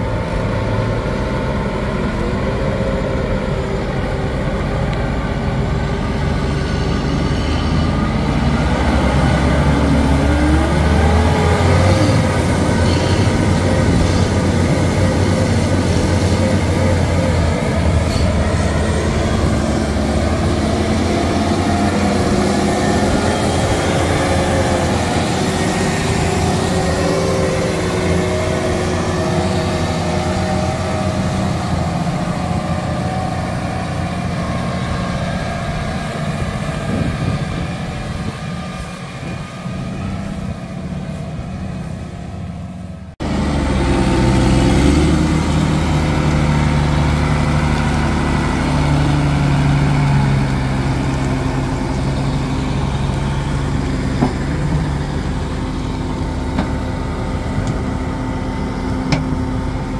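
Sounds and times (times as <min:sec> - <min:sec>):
tractor diesel engines under load: 0:00.0 - 0:59.9.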